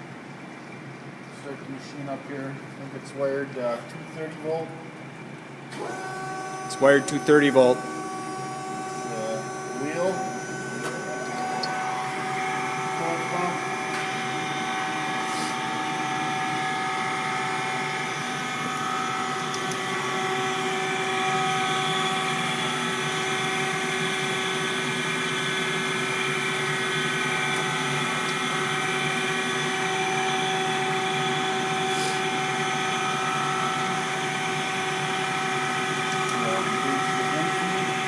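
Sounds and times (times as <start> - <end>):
grinder humming and whining: 5.7 - 38.0.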